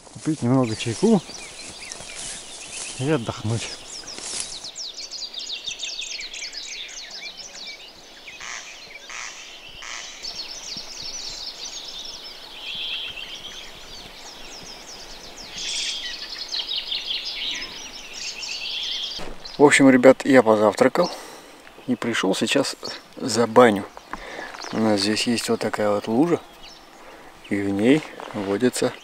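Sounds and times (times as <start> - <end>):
loud bird calls: 0.0 - 29.0
small songbirds chirping: 0.0 - 29.0.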